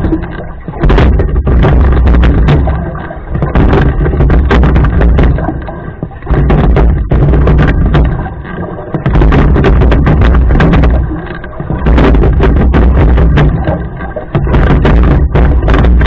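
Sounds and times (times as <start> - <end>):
oar knocks: 0.0 - 16.0
rowing boat low rumble: 0.0 - 16.0.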